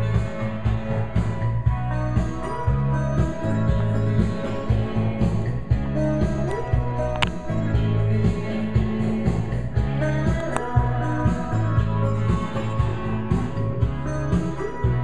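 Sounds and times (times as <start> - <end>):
music with repeating bass line: 0.0 - 15.0.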